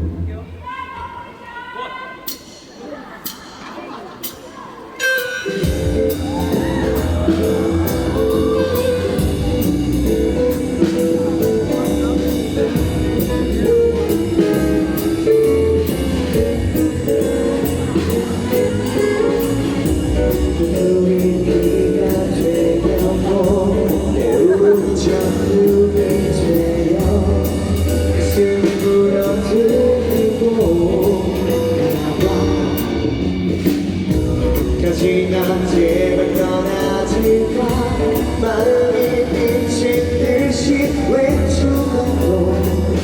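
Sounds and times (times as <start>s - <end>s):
drum-kit beat: 2.3s - 43.0s.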